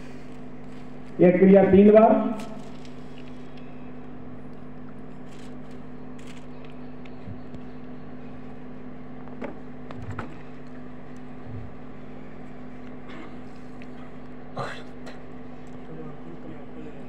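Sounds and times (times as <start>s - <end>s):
loudspeaker electrical hum: 0.0s - 17.0s.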